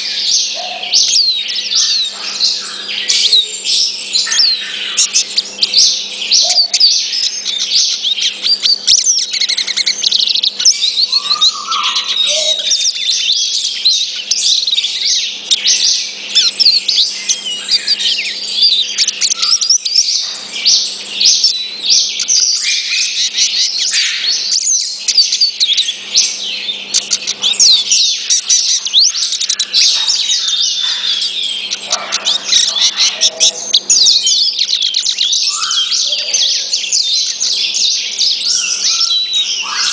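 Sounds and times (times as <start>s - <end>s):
bird call notes: 0.0s - 39.9s
bird twittering song: 0.0s - 39.9s.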